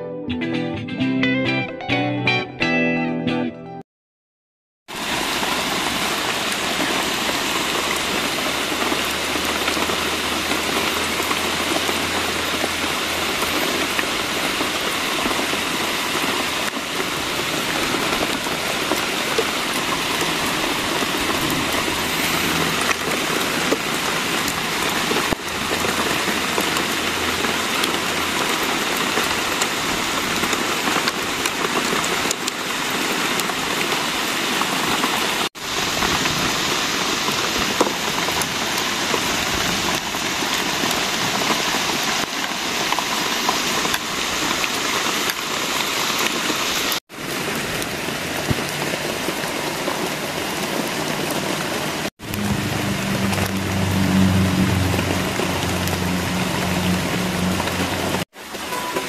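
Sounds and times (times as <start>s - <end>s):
steady rain falling: 4.9s - 59.0s.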